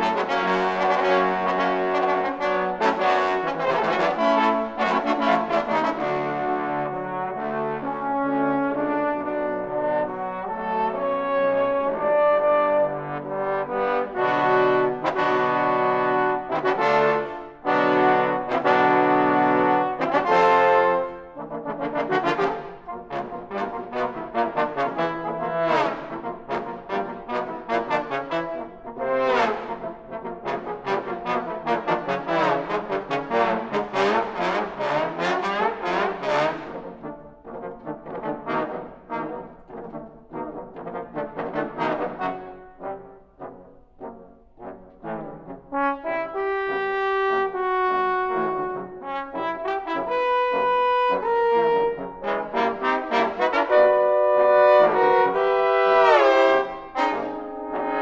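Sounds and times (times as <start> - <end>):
trombone ensemble playing: 0.0 - 58.0.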